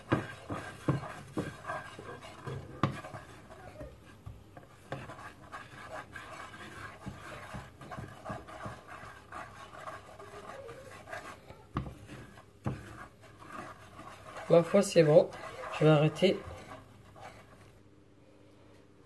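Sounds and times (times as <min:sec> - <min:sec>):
spatula scraping in a frying pan: 0:00.0 - 0:17.8.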